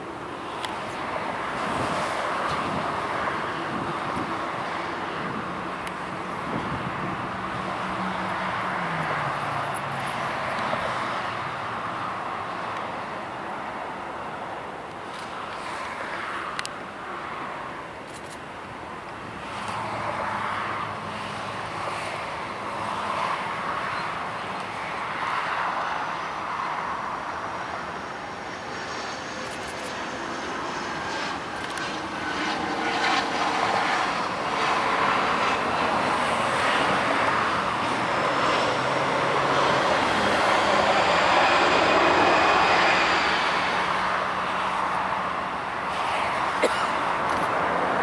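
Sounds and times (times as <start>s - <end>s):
jet airliner engines passing: 0.0s - 48.0s.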